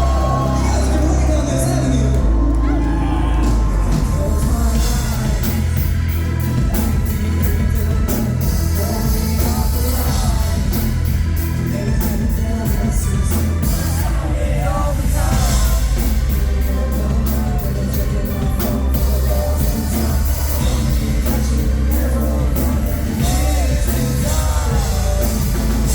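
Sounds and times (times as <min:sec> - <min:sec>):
person singing: 0:00.0 - 0:25.9
rock band playing live: 0:00.0 - 0:25.9.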